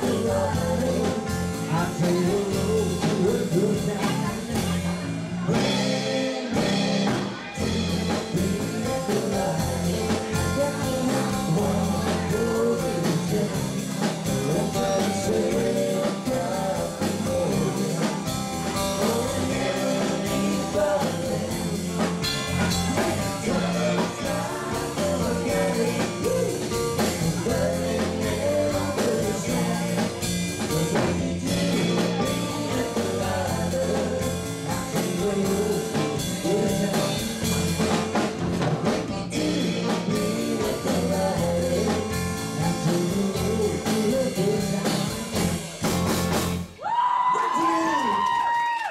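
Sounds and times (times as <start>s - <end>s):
person singing: 0.0s - 38.2s, 39.3s - 45.6s
electric guitar: 0.0s - 46.8s
drums: 0.0s - 48.9s.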